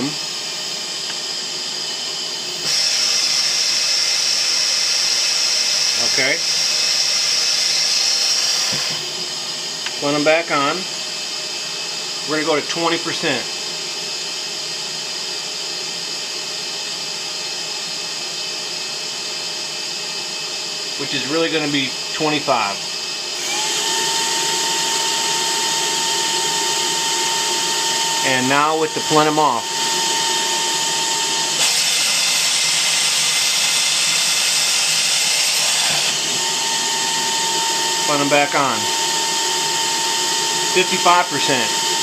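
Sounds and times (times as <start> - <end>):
high-speed fan whining: 0.0 - 15.2, 19.2 - 42.0.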